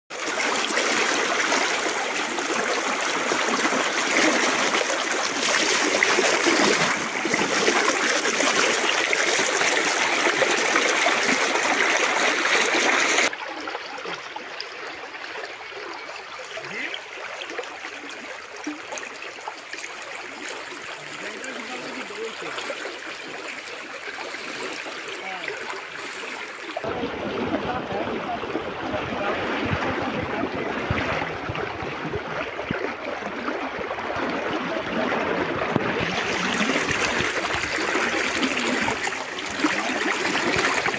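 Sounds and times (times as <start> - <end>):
stream rushing over stones: 0.1 - 40.9.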